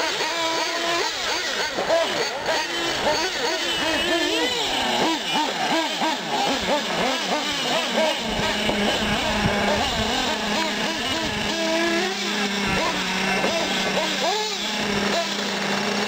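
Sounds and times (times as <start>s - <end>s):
rc truck engines revving: 0.0s - 16.0s.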